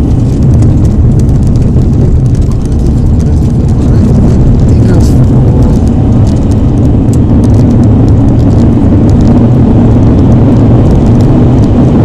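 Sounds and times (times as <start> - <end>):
diesel car engine: 0.0 - 12.0
tyre and road noise: 0.0 - 12.0.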